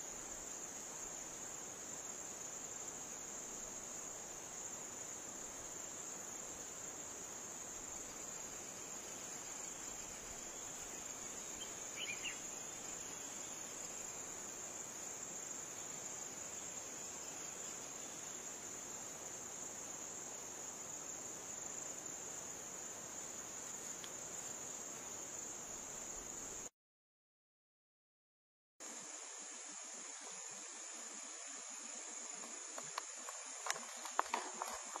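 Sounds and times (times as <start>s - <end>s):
background hiss: 0.0s - 26.7s, 28.8s - 35.0s
high-pitched insect chorus: 0.0s - 26.7s, 28.8s - 35.0s.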